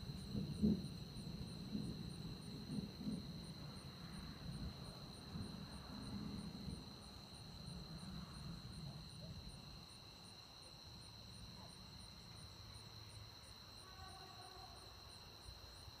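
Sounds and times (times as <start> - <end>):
insect chirping: 0.0 - 16.0
night insects droning: 0.0 - 16.0.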